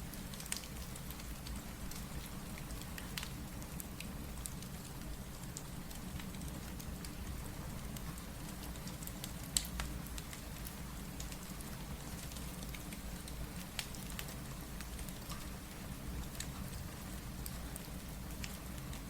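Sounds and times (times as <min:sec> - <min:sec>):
steady rain: 0:00.0 - 0:19.0
wood fire crackling: 0:00.1 - 0:19.0.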